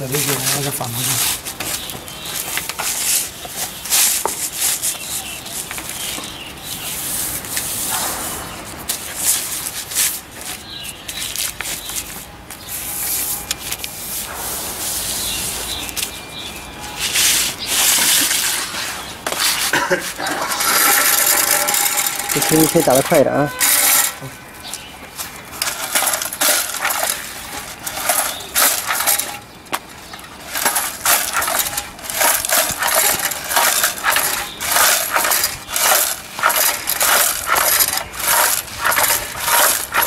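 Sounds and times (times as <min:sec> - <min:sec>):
banner material rustling: 0:00.0 - 0:08.0, 0:08.9 - 0:40.0.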